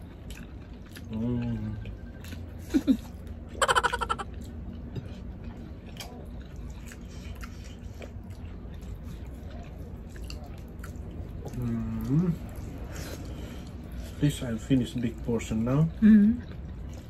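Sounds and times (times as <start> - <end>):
chewing: 0.0 - 15.6, 16.4 - 17.0.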